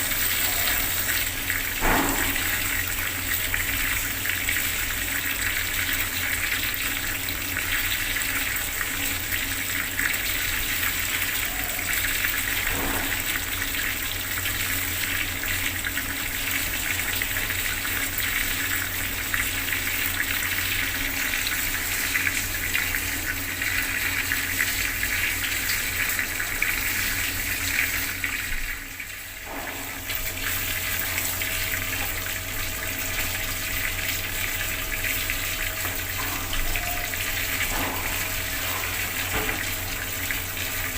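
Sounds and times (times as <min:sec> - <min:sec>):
water tap running: 0:00.0 - 0:40.9.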